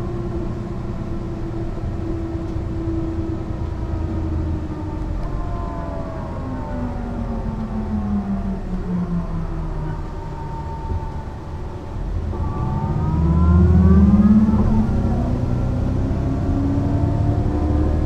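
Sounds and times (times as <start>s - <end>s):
bus engine: 0.0s - 18.0s
drivetrain whine: 0.0s - 18.0s.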